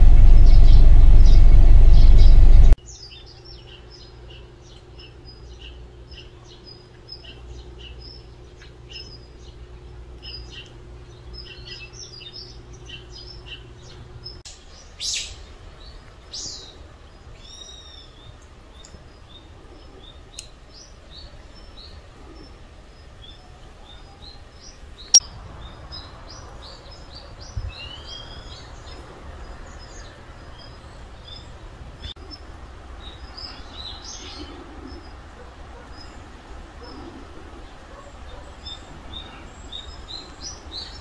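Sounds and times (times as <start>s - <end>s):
birds chirping and calling: 0.0s - 36.2s.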